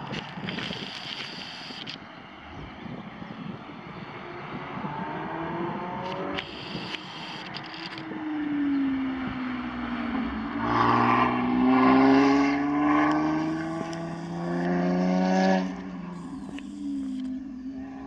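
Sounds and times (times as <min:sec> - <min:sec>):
sports car engine passing: 0:02.7 - 0:18.0.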